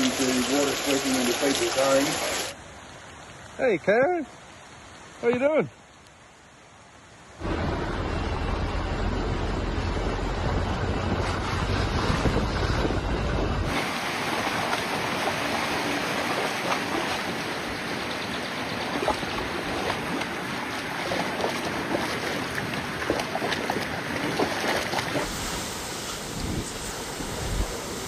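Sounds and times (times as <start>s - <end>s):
floodwater rushing and splashing: 0.0s - 28.0s.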